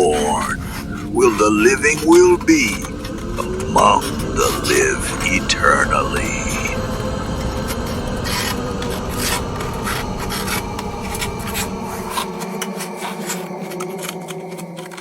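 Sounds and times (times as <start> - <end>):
deep rumble: 0.0 - 14.5
grating rasping scrape: 0.0 - 15.0
low steady drone: 0.0 - 15.0.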